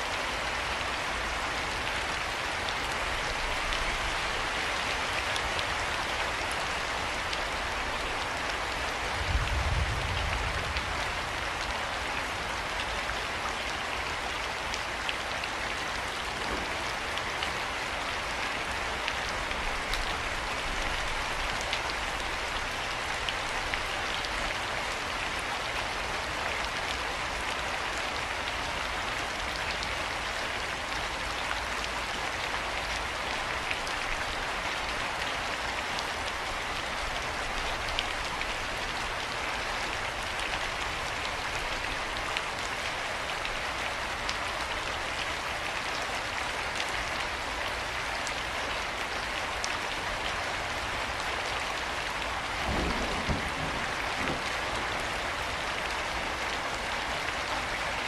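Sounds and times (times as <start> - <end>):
rain with ticking drops: 0.0 - 58.0.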